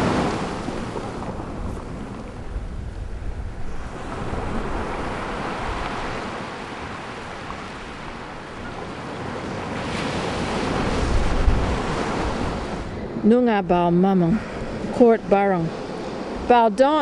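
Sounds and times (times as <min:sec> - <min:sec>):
ocean surf washing in: 0:00.0 - 0:17.0
wind rumbling on microphone: 0:00.0 - 0:17.0.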